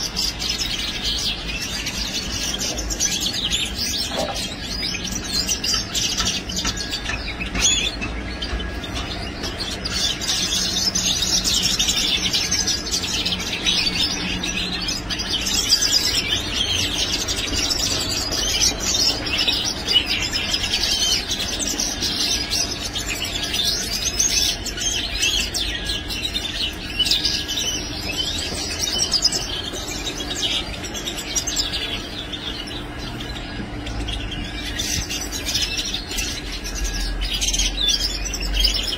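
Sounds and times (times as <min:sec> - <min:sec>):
finches twittering and chirping: 0:00.0 - 0:38.9.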